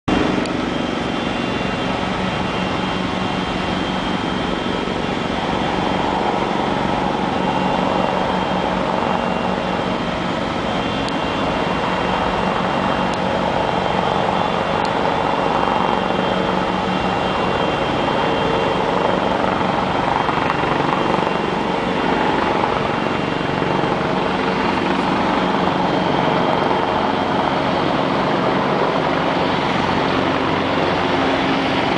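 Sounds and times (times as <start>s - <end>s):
faint steady tones: 0.1s - 31.9s
helicopter rotor and turbine: 0.1s - 31.9s
machinery drone: 0.1s - 31.9s.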